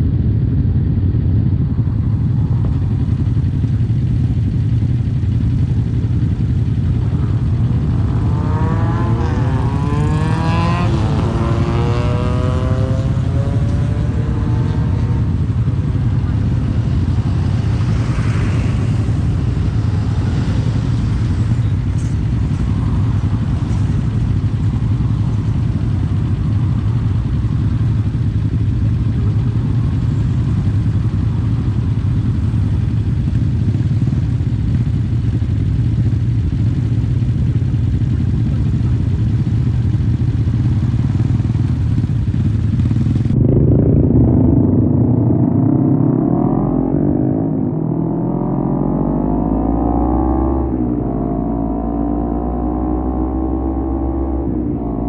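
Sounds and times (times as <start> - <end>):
motorcycle engine exhaust note: 0.0 - 55.0.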